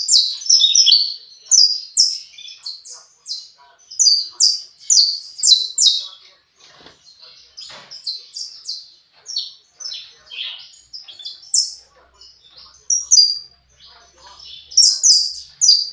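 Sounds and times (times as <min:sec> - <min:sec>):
finch singing high chirps: 0:00.0 - 0:15.9.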